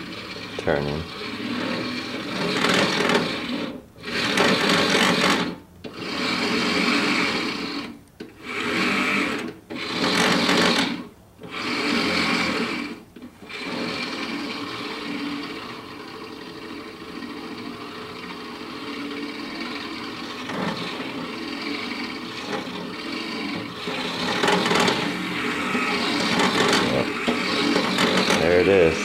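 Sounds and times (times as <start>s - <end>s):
toy bulldozer electric motors whirring: 0.0s - 29.0s.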